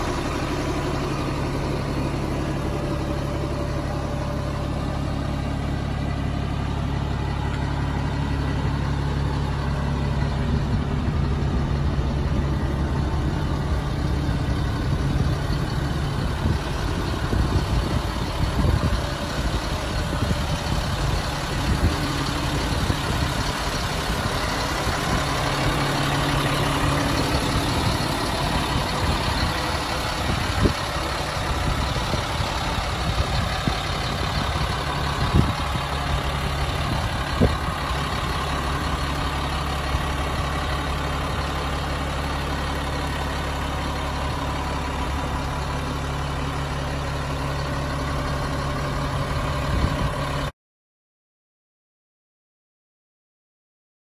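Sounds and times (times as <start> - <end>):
diesel truck engine idling: 0.0 - 50.5.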